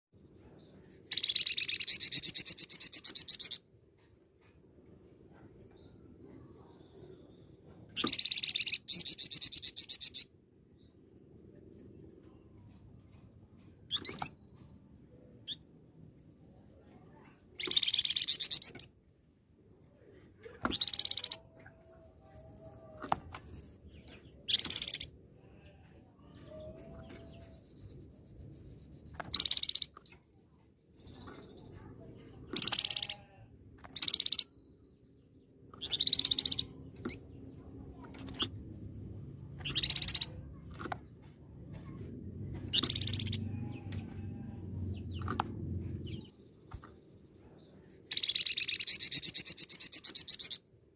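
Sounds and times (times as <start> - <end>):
songbird singing: 0.2 - 4.6, 5.4 - 19.0, 19.8 - 50.9.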